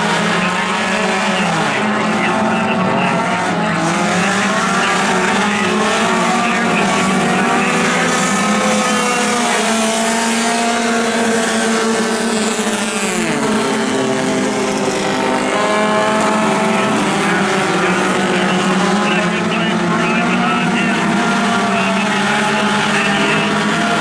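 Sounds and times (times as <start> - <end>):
race car engines droning: 0.0 - 24.0.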